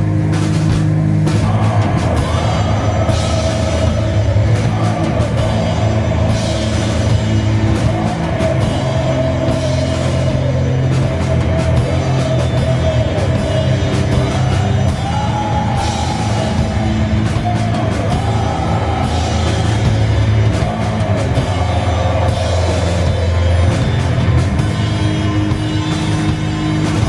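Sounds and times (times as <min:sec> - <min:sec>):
heavy metal band playing live: 0:00.0 - 0:27.0.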